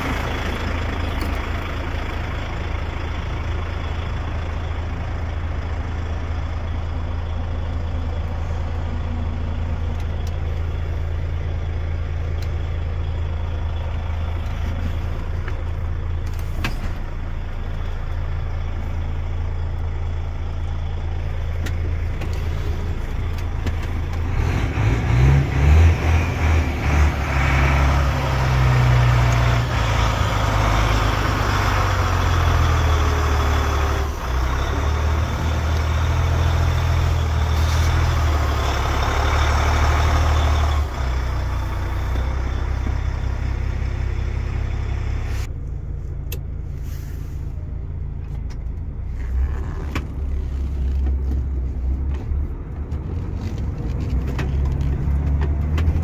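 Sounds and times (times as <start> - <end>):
diesel engine idling: 0.0 - 49.4.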